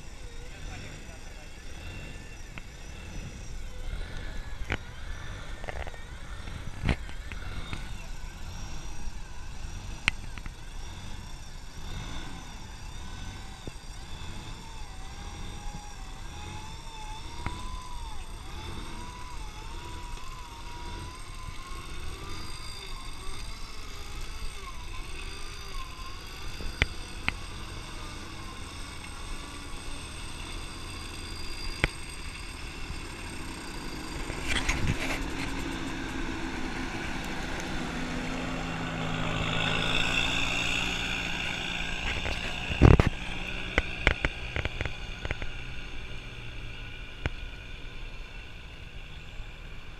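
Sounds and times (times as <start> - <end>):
vehicle engine revving unevenly: 0.0 - 49.9.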